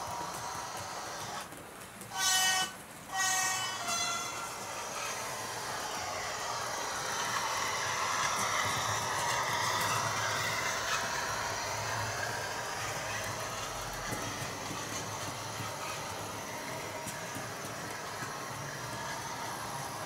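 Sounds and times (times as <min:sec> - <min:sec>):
model train rumble and whir: 0:00.0 - 0:20.0.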